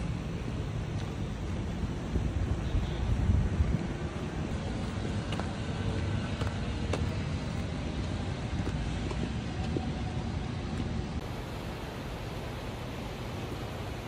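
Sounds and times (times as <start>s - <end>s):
distant road traffic rumble: 0.0s - 14.0s.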